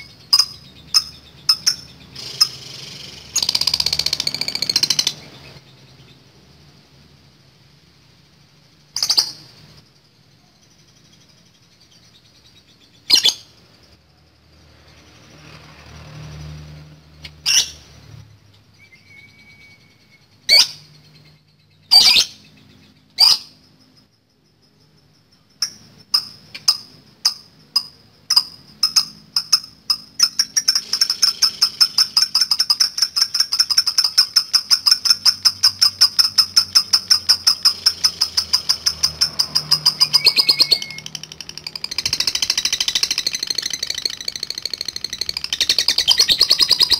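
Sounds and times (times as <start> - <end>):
bird chirping and rattling: 0.0 - 6.2, 8.2 - 46.9.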